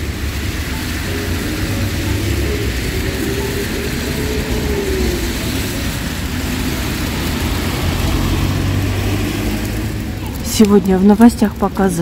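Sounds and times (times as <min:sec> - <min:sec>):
low rumble of street noise: 0:00.0 - 0:12.0
vehicle engine running: 0:00.0 - 0:12.0.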